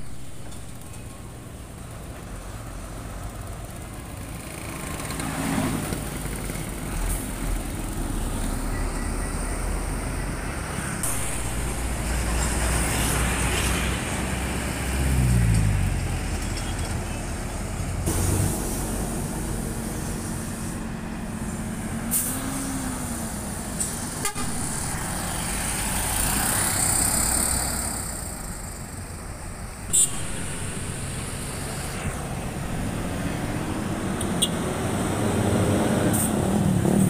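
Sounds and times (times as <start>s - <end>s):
trucks passing by: 0.0s - 37.0s.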